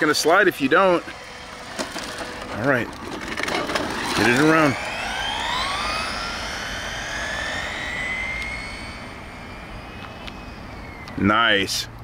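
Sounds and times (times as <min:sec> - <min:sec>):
rc car electric motor whining: 0:00.0 - 0:12.0.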